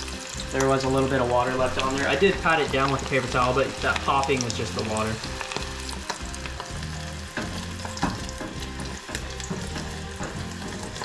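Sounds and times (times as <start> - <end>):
squid deep-frying in oil: 0.0 - 11.0.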